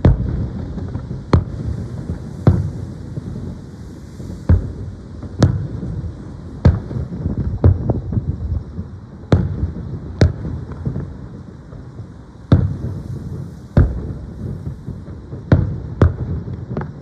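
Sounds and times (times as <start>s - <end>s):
firework shells booming: 0.0s - 17.0s.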